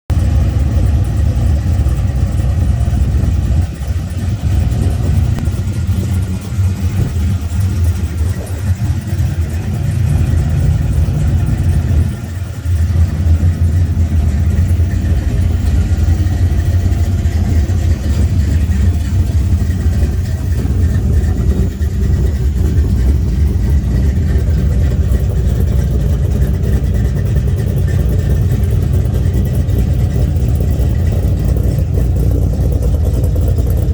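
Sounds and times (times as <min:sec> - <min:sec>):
car engine rumbling: 0:00.1 - 0:33.9.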